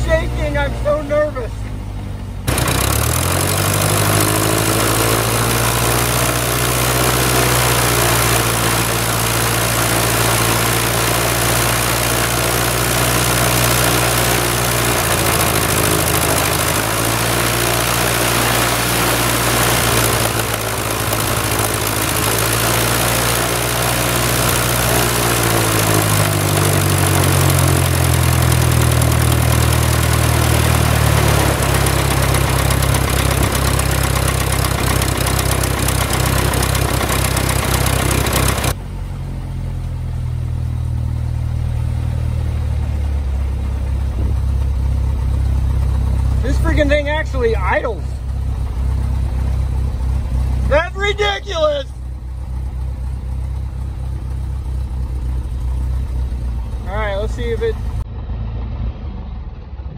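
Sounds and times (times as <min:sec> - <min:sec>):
aircraft engine and propeller running: 0:00.0 - 0:59.9.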